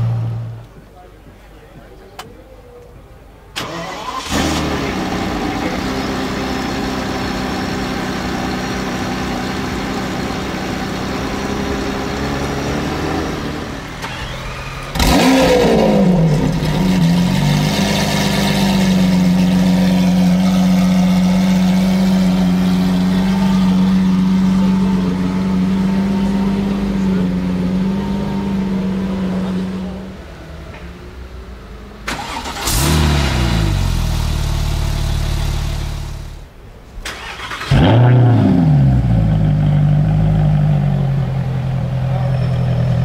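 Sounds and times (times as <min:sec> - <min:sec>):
car engine starting and idling: 0:03.4 - 0:43.0
loud car engine revving: 0:03.9 - 0:30.3, 0:32.1 - 0:36.4, 0:37.2 - 0:43.0.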